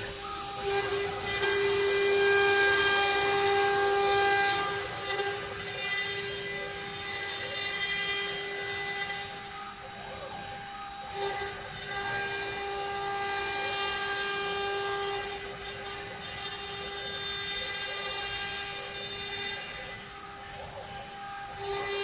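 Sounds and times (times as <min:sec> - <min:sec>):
bit rasping into wood: 0:00.0 - 0:22.0
router spindle high whine: 0:00.0 - 0:22.0.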